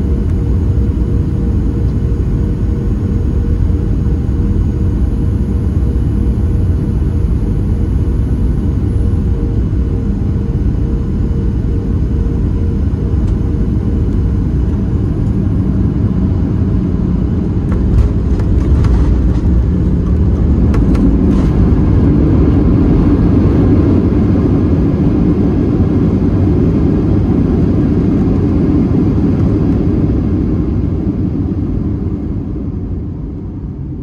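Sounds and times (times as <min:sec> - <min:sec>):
jet engine rumble in cabin: 0:00.0 - 0:34.0.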